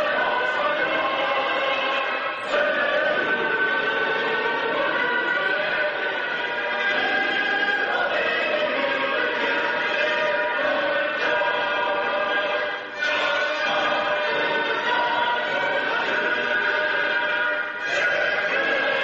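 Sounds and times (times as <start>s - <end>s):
voices singing in unison: 0.0s - 19.0s.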